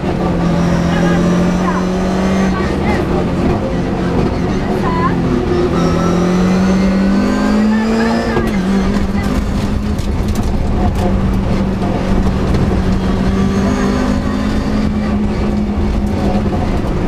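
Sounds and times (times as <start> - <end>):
car engine running hard: 0.0 - 17.0
road and tyre noise: 0.0 - 17.0.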